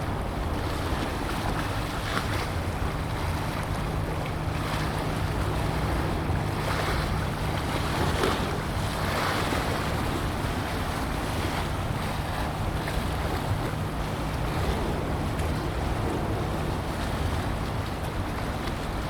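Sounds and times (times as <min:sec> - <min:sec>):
rush of wind and water: 0:00.0 - 0:19.0
ship engine humming: 0:00.0 - 0:19.0.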